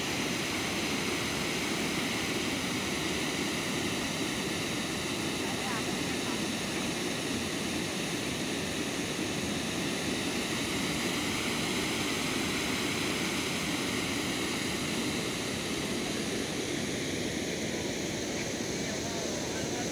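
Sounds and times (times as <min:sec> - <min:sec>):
water rushing over a weir: 0:00.0 - 0:19.9.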